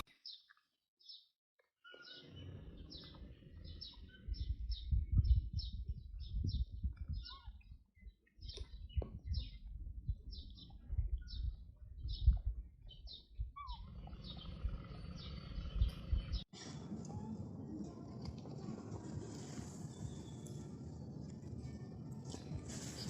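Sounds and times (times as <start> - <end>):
small birds chirping: 0.0 - 17.3, 17.9 - 23.0.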